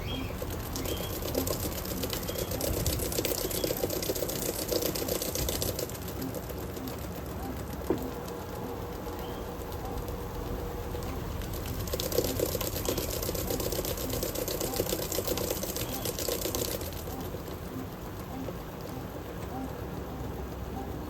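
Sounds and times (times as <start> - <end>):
washing machine rhythmic clicking: 0.0 - 21.0.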